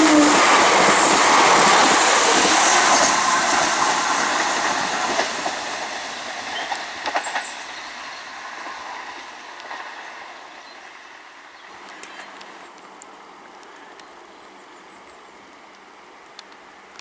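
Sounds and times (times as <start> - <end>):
train passing at speed: 0.0 - 13.6.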